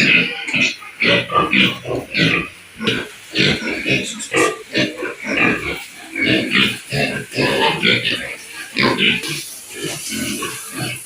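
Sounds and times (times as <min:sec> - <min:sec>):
pigs grunting and oinking: 0:00.0 - 0:11.0.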